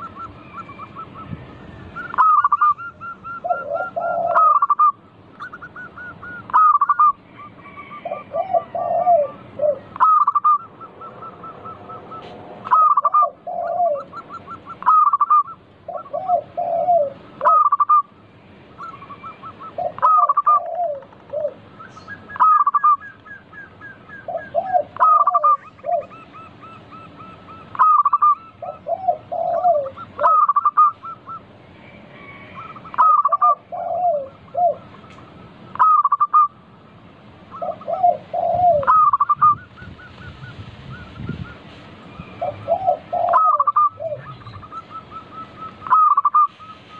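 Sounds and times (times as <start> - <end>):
doves cooing: 0.0 - 36.6, 37.4 - 46.9.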